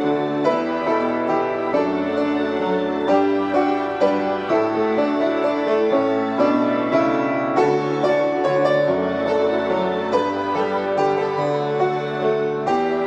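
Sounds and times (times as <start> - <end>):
piano duet playing a hymn: 0.0 - 13.0.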